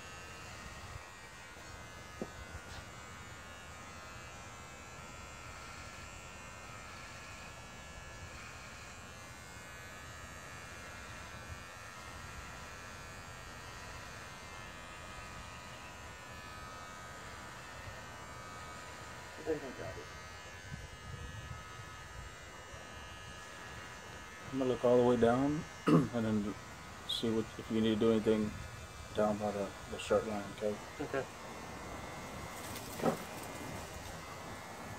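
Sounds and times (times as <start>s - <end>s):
electric hair clippers buzzing: 0.0s - 34.9s.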